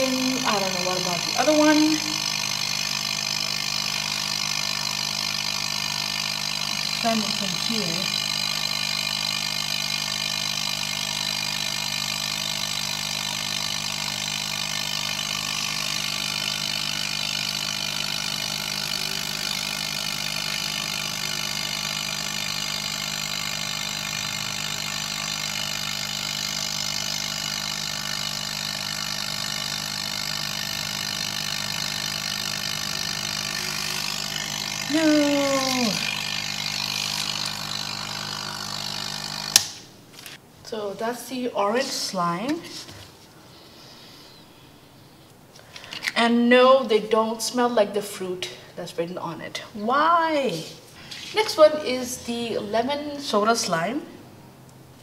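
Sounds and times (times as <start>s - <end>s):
electric air pump humming: 0.0s - 45.0s, 49.9s - 55.0s.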